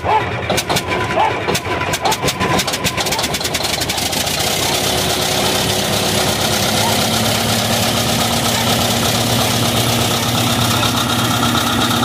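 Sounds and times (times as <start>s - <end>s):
bulldozer diesel engine idling: 0.0s - 12.0s.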